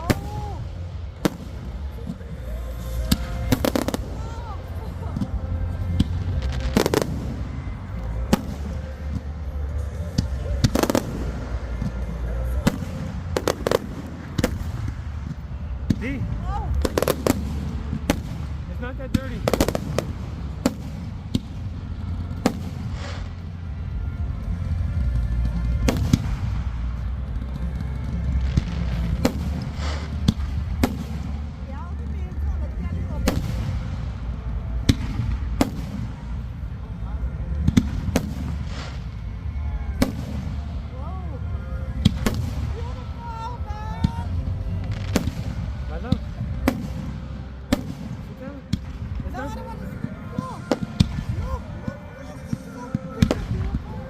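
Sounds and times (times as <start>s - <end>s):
fireworks bursting with sharp bangs: 0.0s - 54.0s
steady low rumble: 0.0s - 54.0s.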